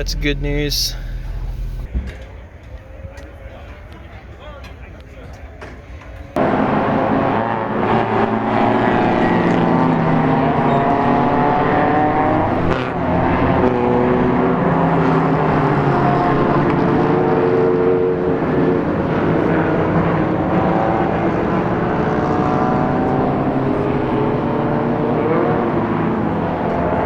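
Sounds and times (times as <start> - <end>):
race car engines revving: 0.0 - 1.9, 6.4 - 27.0.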